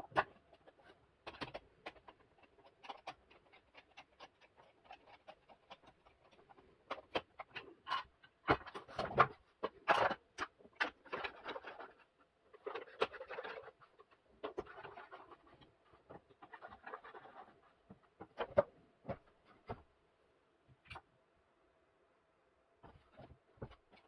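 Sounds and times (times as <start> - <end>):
rustling and scratching: 0.0 - 20.0, 22.8 - 24.0.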